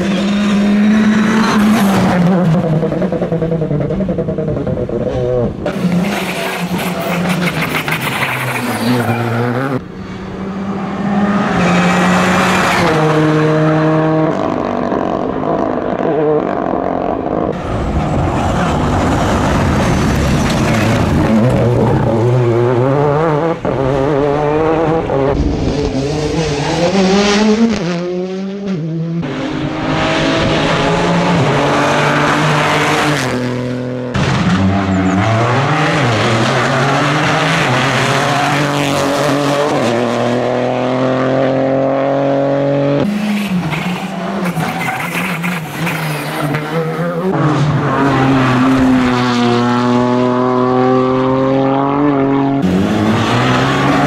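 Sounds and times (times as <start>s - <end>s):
rally car engines at full throttle: 0.0s - 54.0s.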